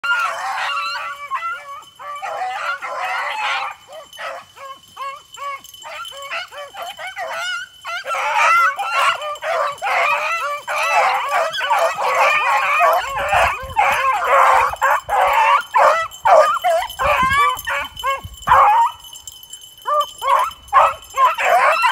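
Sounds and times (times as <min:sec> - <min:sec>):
dogs baying and yelping: 0:00.0 - 0:21.9.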